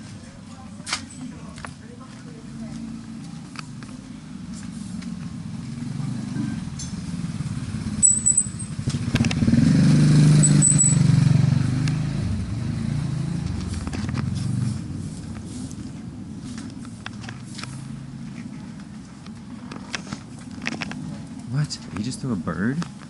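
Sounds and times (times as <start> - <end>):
motorbike engine passing: 2.6 - 21.7.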